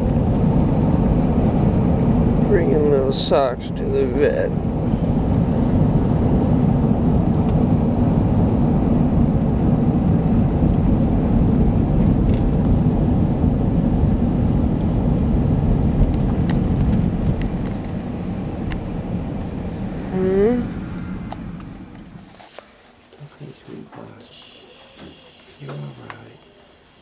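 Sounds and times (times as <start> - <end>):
car road and engine noise: 0.0 - 23.1.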